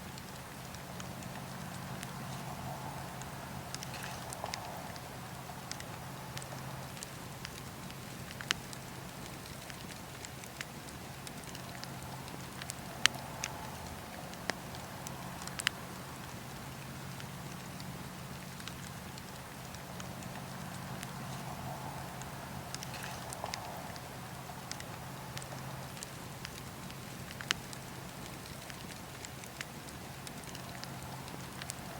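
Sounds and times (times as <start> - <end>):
burning wood crackling and popping: 0.0 - 31.9
campfire rushing: 0.0 - 31.9.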